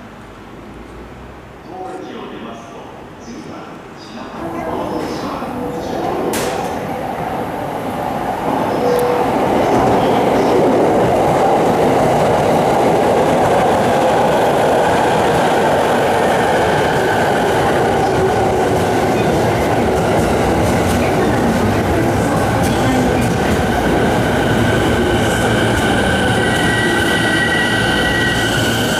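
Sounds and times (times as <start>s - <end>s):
train wheels rumbling on rails: 4.7s - 28.9s.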